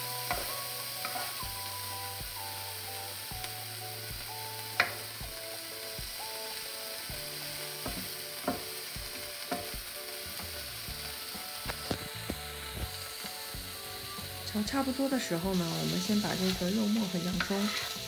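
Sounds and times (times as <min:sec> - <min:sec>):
meat sizzling on a griddle: 0:00.0 - 0:18.0.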